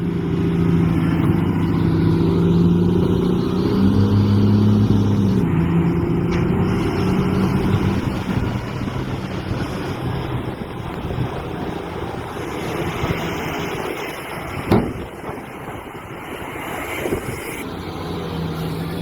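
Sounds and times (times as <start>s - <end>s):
heavy machine engine running: 0.0s - 16.6s.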